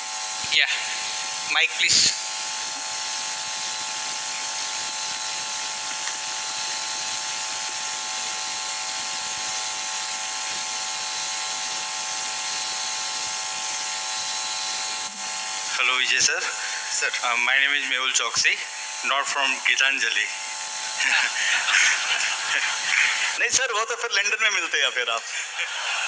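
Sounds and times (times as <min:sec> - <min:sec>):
electronic hiss and buzz: 0:00.0 - 0:23.6.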